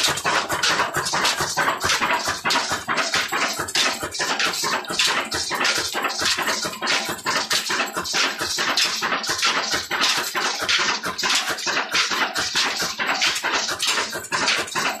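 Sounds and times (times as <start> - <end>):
belt-driven mill rhythmic thumping: 0.0 - 15.0.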